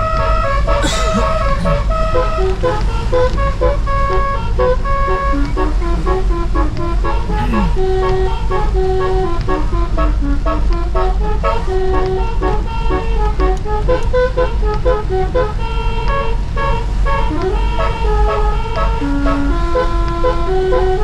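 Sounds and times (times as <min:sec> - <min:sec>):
musical air horn melody: 0:01.4 - 0:21.0.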